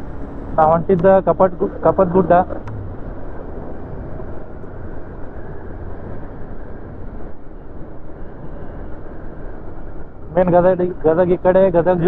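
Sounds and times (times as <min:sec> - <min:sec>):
motorcycle engine drone: 0:00.0 - 0:12.0
road and wind noise: 0:00.0 - 0:12.0.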